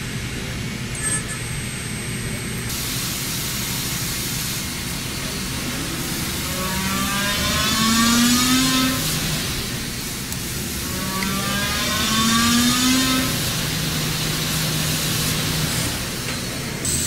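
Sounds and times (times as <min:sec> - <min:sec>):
rising machine whine: 0:00.7 - 0:17.0
lathe machining metal: 0:02.6 - 0:17.0.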